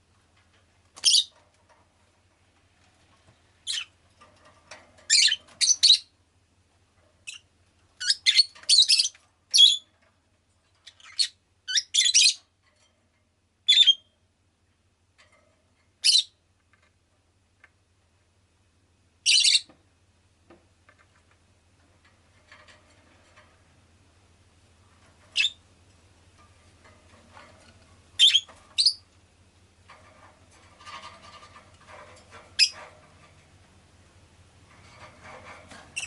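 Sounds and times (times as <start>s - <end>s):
background noise: 0.0s - 36.0s.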